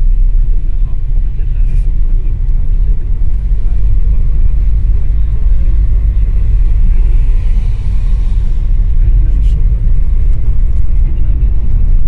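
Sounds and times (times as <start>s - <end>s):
car interior low rumble: 0.0s - 12.0s.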